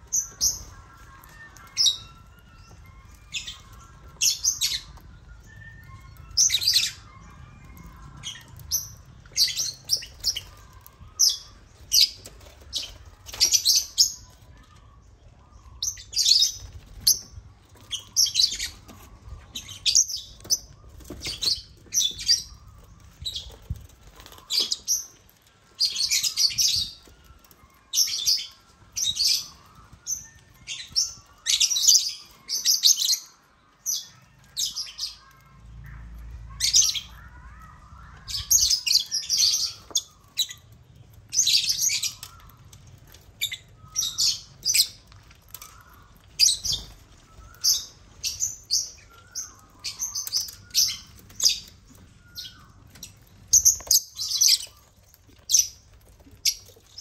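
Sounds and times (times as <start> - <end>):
lovebirds chirping: 0.0 - 57.0.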